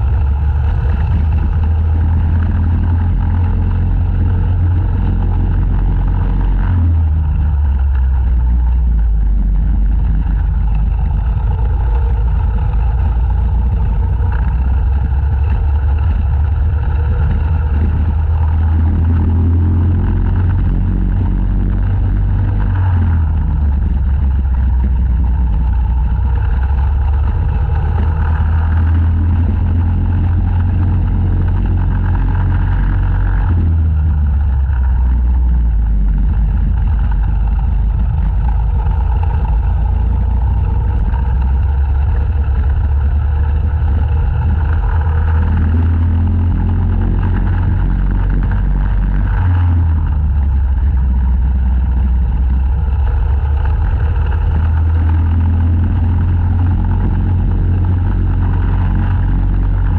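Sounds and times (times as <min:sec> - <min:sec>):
racing kart engine at speed: 0:00.0 - 0:59.9.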